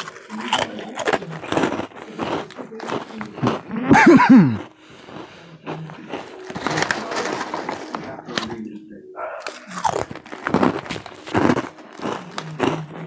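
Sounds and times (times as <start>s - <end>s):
crunchy fries being chewed: 0.0s - 13.0s.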